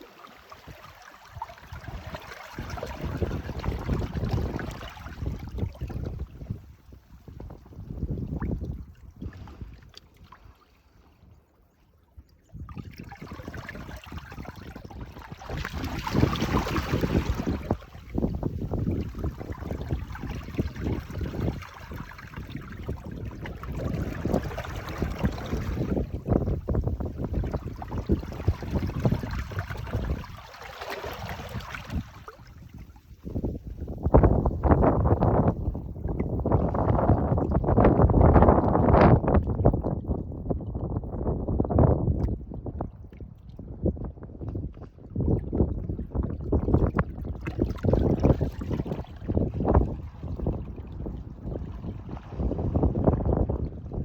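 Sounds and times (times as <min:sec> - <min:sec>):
waves lapping against rocks: 0:00.0 - 0:11.1, 0:12.5 - 0:39.9, 0:46.2 - 0:53.5.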